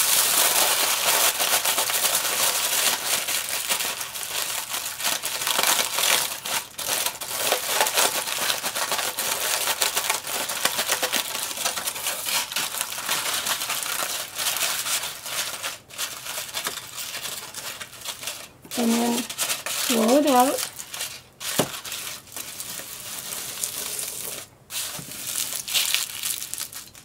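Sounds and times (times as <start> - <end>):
aluminum foil crinkling: 0.0 - 27.0.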